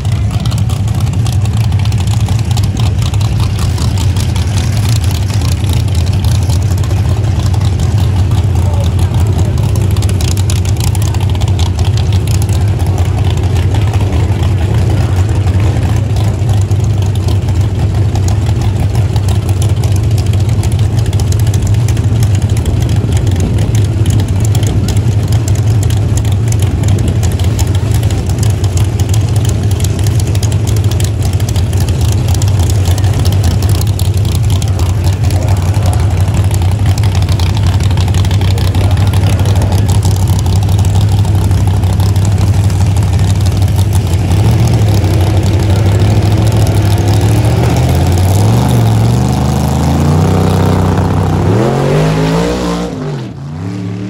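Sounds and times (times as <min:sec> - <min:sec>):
race engine idling loudly: 0:00.0 - 0:54.0.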